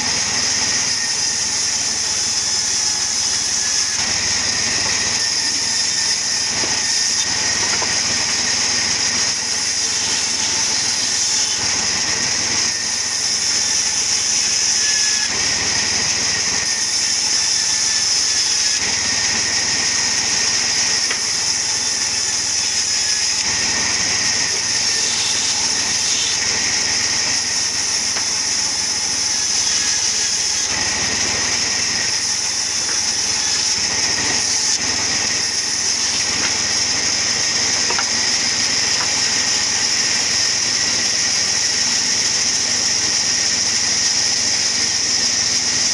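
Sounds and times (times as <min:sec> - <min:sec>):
wood-cutting saw machine running: 0:00.0 - 0:45.9.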